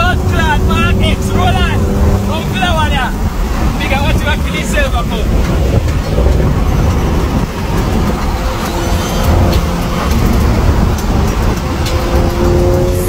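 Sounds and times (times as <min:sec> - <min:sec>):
car cabin road and wind noise: 0:00.0 - 0:13.0.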